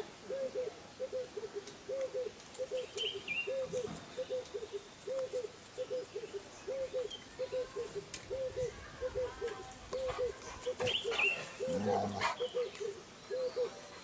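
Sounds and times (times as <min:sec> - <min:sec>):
bird cooing: 0:00.2 - 0:14.0
bird chirp: 0:00.3 - 0:14.0.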